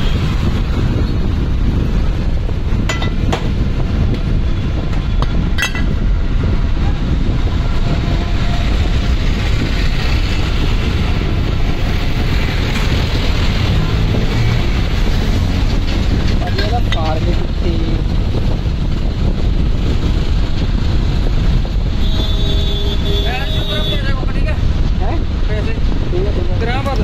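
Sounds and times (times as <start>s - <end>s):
steady low rumbling: 0.0s - 22.4s.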